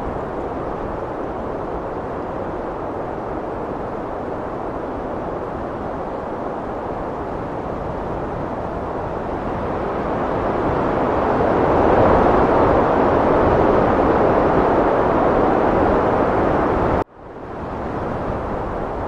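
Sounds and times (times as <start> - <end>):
heavy wind blowing: 0.0 - 19.0.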